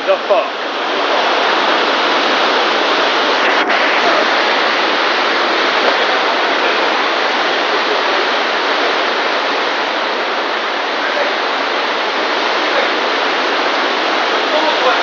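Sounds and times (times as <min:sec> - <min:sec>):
heavy rain on plastic roof: 0:00.0 - 0:15.0.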